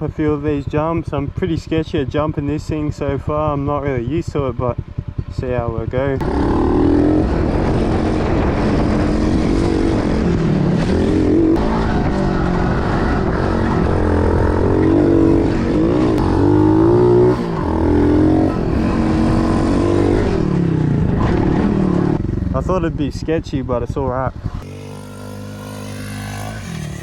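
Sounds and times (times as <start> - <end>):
motorbike engine revving: 0.0 - 23.0, 23.9 - 27.0.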